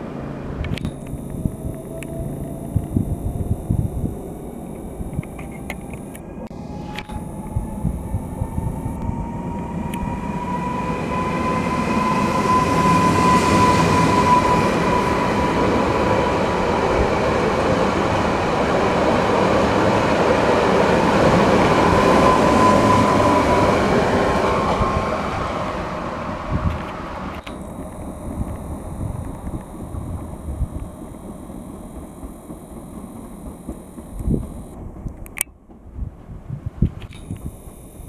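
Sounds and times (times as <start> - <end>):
electric train whine: 0.0 - 35.4, 37.1 - 38.0.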